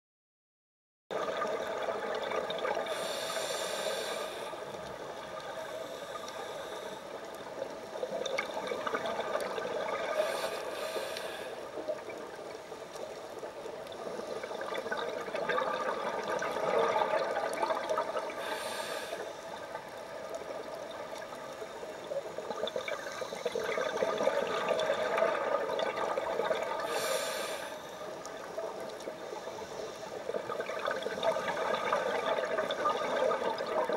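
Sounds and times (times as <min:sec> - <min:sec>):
exhaled bubbles underwater: 0:01.1 - 0:33.9
underwater hiss and hum: 0:01.1 - 0:33.9.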